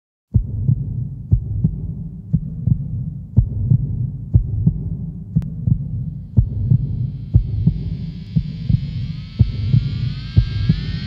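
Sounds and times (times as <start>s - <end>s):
heartbeat thumps: 0.3s - 11.0s
steady low hum: 0.4s - 11.0s.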